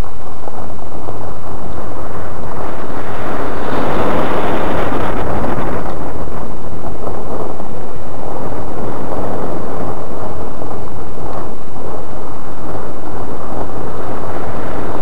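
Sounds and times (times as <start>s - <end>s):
tyres spinning in snow: 0.0s - 15.0s
wind buffeting microphone: 0.0s - 15.0s.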